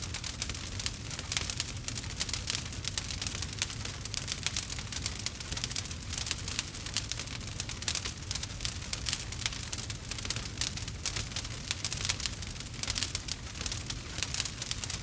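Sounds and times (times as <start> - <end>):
campfire crackling: 0.0 - 15.0
low rumble of burning fire: 0.0 - 15.0.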